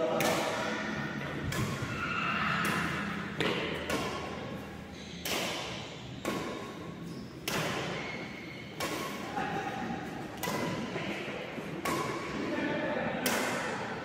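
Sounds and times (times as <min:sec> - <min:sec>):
rackets hitting shuttlecock: 0:00.0 - 0:14.0.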